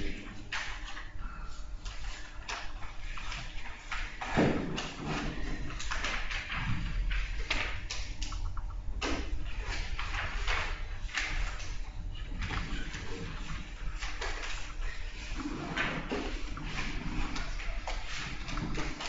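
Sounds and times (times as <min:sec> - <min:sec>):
low room hum: 0:00.0 - 0:19.0
papers and objects rustling: 0:00.0 - 0:19.0.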